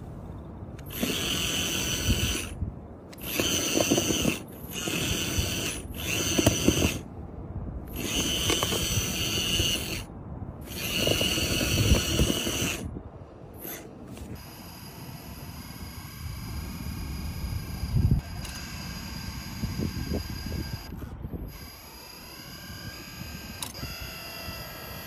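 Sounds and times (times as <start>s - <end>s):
electric pump whining: 0.8s - 7.1s, 7.9s - 25.0s.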